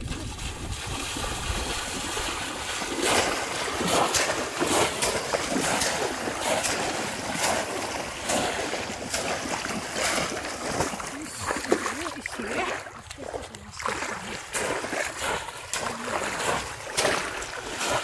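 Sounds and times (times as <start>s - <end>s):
legs wading through water: 0.0s - 18.0s
water splashing: 0.0s - 18.0s.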